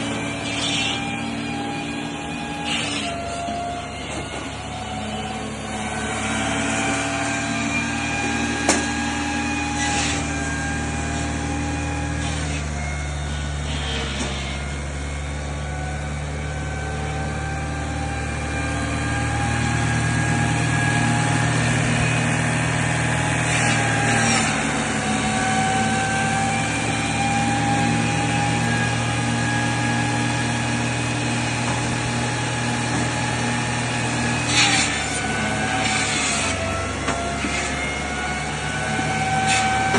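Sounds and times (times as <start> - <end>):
firewood saw mechanical hum: 0.0 - 39.9.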